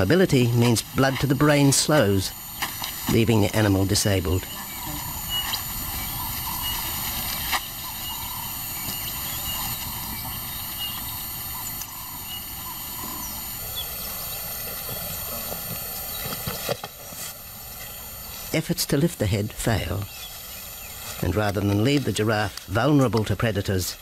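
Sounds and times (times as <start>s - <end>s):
outdoor bush ambience: 0.0s - 24.0s.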